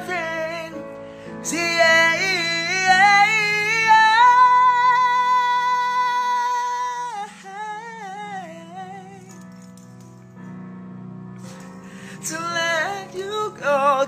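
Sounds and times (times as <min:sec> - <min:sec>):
pop ballad: 0:00.0 - 0:14.0.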